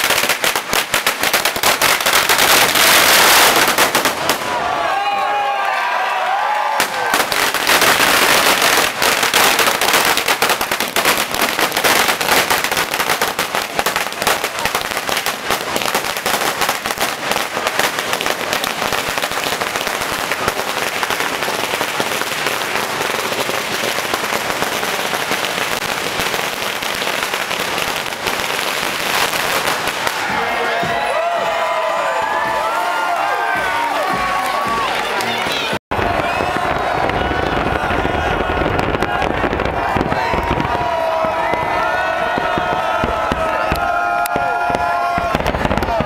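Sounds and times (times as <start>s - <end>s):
firecrackers crackling: 0.0s - 46.0s.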